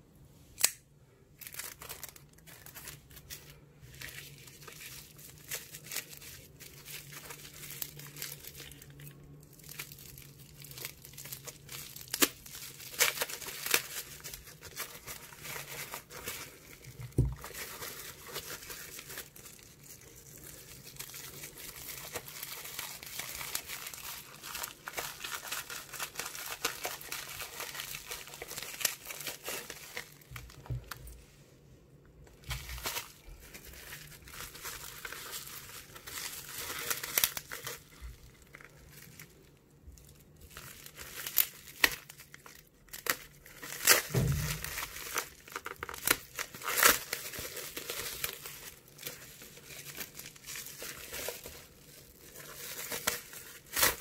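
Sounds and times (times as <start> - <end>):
bubble wrap crinkling and tearing: 1.4 - 31.2, 32.2 - 54.0.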